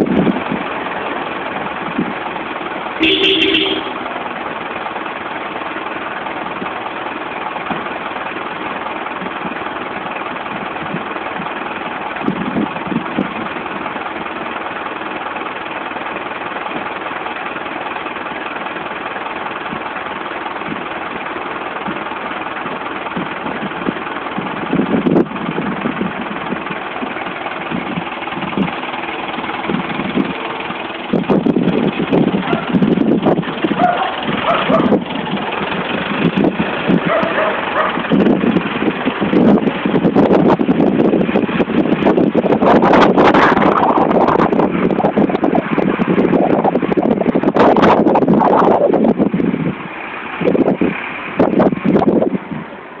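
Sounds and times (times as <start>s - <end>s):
truck engine drone: 0.0s - 53.0s.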